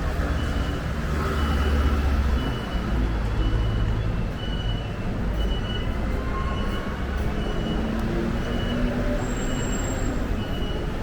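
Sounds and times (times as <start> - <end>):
passing vehicles rumble: 0.0 - 11.0.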